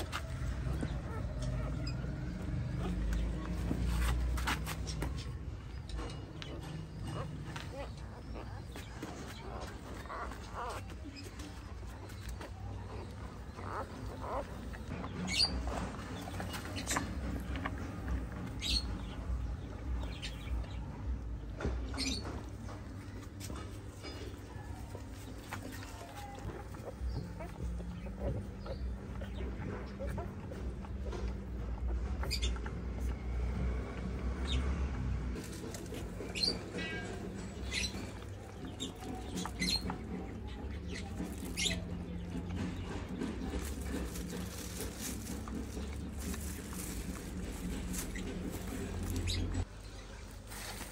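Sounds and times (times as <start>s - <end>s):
puppies squeaking: 0.0s - 20.9s, 21.5s - 33.5s, 34.2s - 49.7s.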